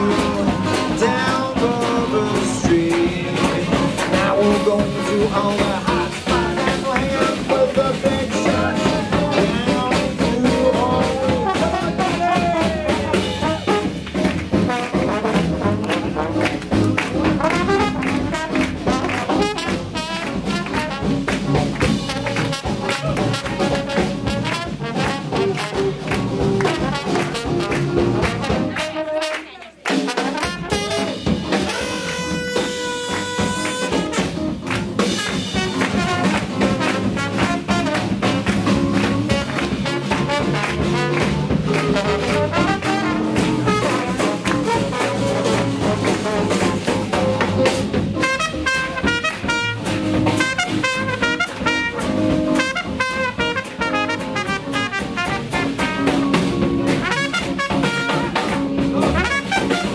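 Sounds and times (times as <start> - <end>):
swing jazz band playing: 0.0 - 59.9
trumpet leading: 0.0 - 59.9.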